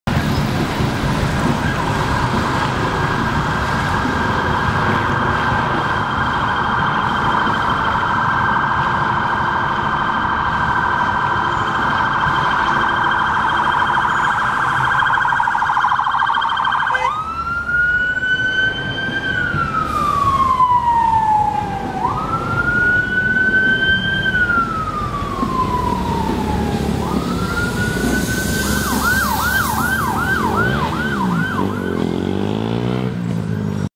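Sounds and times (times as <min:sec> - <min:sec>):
traffic rumbling: 0:00.0 - 0:33.9
police siren yelp and wail: 0:01.1 - 0:32.7.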